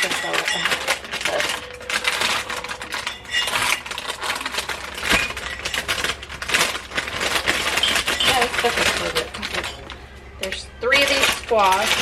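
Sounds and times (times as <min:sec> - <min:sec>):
vegetables and grocery bags rustling: 0:00.0 - 0:12.0.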